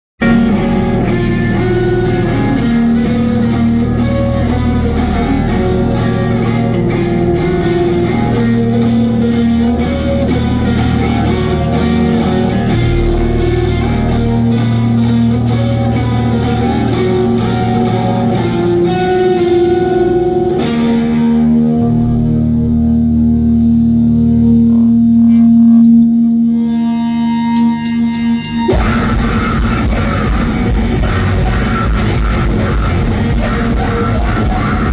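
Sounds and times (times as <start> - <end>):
electric guitar held notes: 0.2 - 34.9
live band playing: 0.2 - 34.9.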